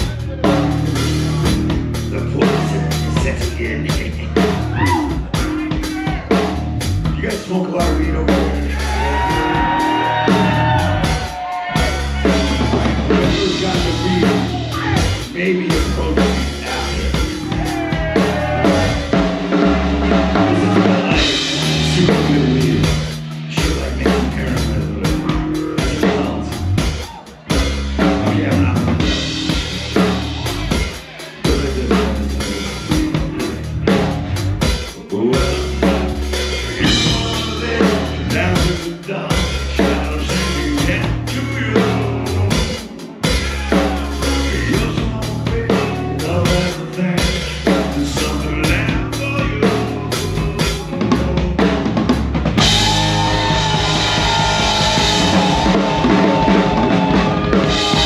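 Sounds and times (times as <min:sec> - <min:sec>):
metal band playing loud: 0:00.0 - 0:58.0.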